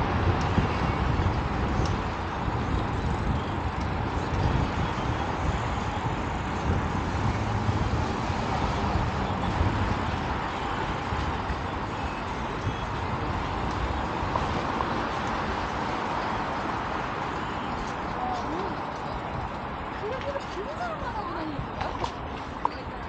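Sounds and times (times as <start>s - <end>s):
low hum of road traffic: 0.0s - 23.0s.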